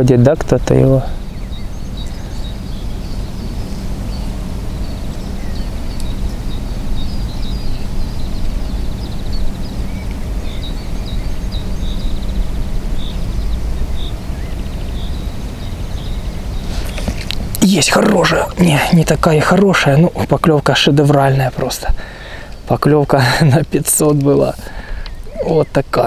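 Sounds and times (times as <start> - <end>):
distant birds chirping: 0.0 - 26.0.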